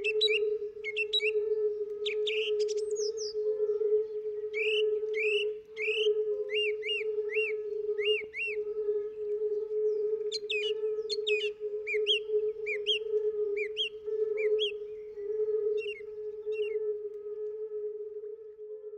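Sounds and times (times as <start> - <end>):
songbird chirping: 0.0 - 18.9
steady low tone: 0.0 - 18.9.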